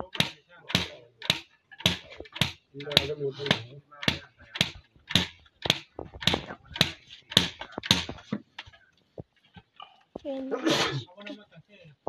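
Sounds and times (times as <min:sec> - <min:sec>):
sticks beating fibre: 0:00.0 - 0:09.8.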